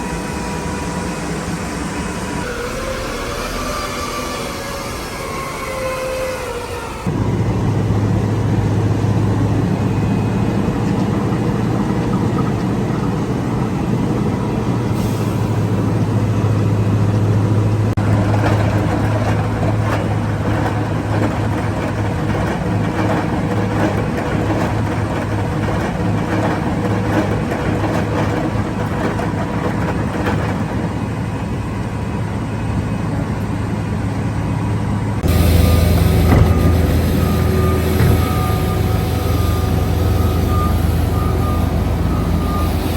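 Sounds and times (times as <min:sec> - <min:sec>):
diesel engine humming: 0:00.0 - 0:42.9
machinery clattering: 0:01.9 - 0:31.2, 0:35.2 - 0:42.9.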